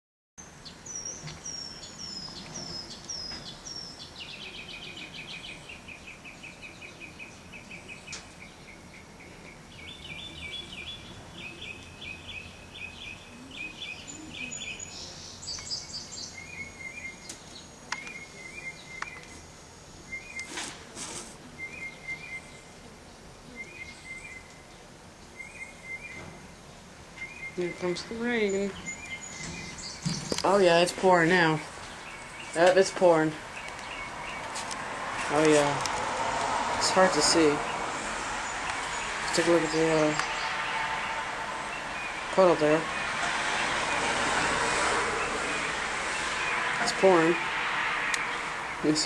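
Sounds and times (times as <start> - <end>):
songbirds singing: 0.4 - 20.6, 21.5 - 49.0.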